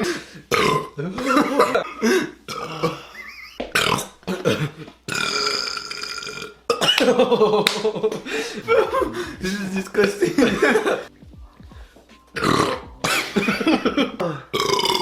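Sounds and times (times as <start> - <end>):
men burping: 0.0 - 7.3, 8.2 - 11.1, 12.4 - 15.0.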